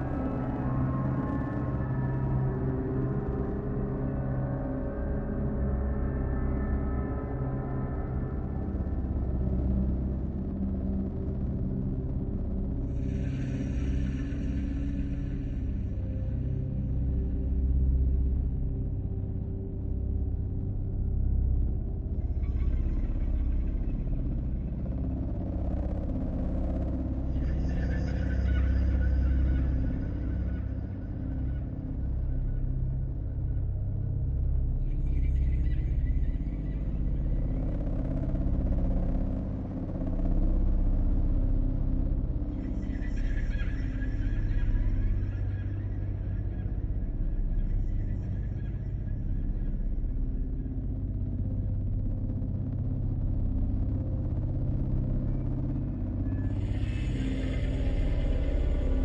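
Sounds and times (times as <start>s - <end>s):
deep rumbling drone: 0.0s - 59.0s
faint higher hum: 0.0s - 59.0s.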